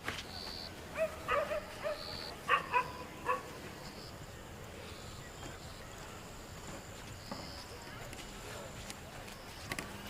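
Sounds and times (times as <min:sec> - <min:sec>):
faint steady hiss: 0:01.6 - 0:10.0.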